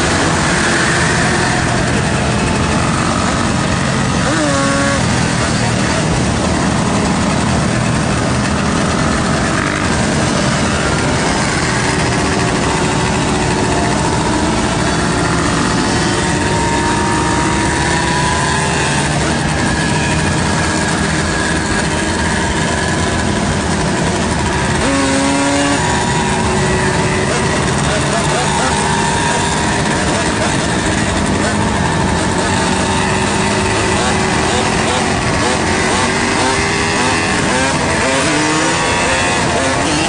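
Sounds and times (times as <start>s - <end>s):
motorcycle and quad engines: 0.0s - 40.0s.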